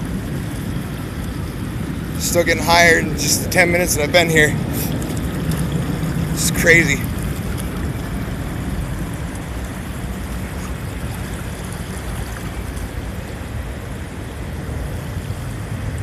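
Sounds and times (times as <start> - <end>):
floodwater rushing over divider: 0.0 - 16.0.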